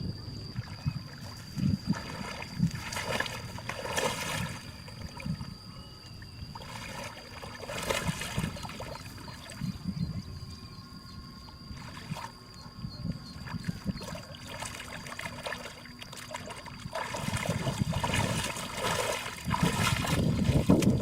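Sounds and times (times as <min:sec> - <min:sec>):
steady high-pitched tone: 0:00.0 - 0:21.0
water sloshing and splashing: 0:00.6 - 0:05.5, 0:06.2 - 0:09.7, 0:11.5 - 0:21.0
water swishes: 0:00.6 - 0:05.5, 0:06.5 - 0:09.7, 0:11.5 - 0:21.0.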